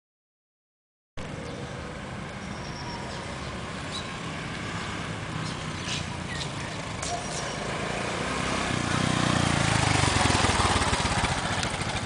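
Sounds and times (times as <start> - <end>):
outdoor background noise: 1.2 - 12.0
motorbike engine rumbling: 2.1 - 12.0.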